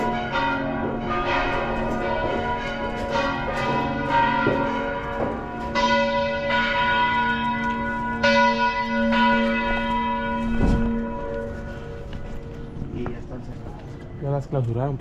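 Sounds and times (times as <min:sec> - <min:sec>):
church bells ringing a peal: 0:00.0 - 0:14.9.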